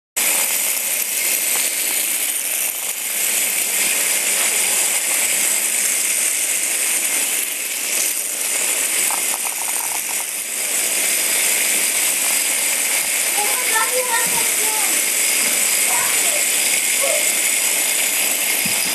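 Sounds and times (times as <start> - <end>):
toy robots buzzing and rattling: 0.2 - 18.9.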